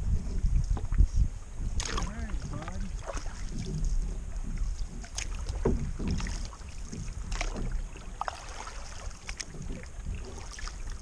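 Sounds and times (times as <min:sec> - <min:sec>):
low rumble: 0:00.0 - 0:11.0
paddle splashing in water: 0:01.6 - 0:11.0.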